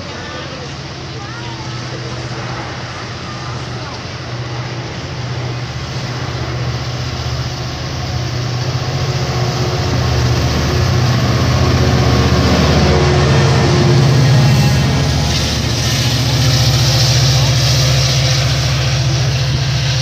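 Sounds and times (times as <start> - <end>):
diesel engine drone: 0.0 - 20.0
train wheels on rails: 0.0 - 20.0.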